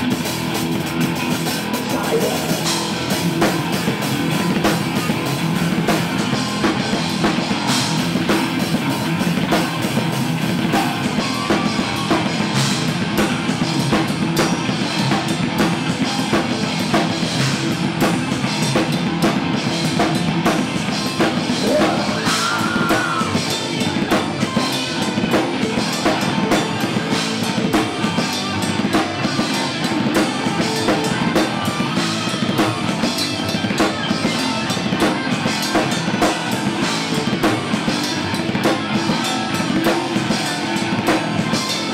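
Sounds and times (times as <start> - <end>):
drum kit: 0.0 - 41.9
electric guitar: 0.0 - 41.9.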